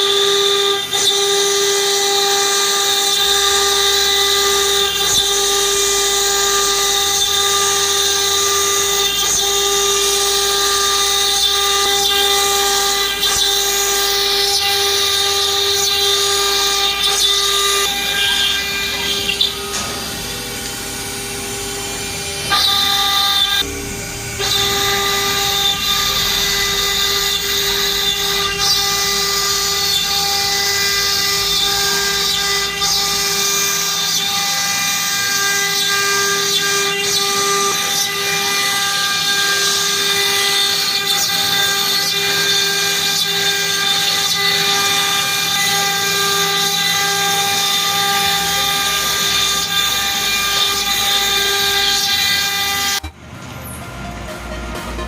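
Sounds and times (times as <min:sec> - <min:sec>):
router spindle whining while cutting: 0:00.0 - 0:53.3.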